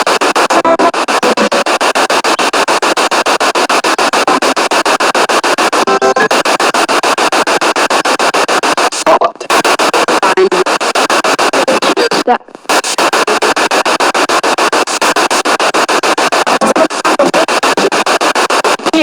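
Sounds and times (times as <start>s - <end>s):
pitched radio sound: 0.0s - 19.0s
pulsing radio static: 0.0s - 19.0s.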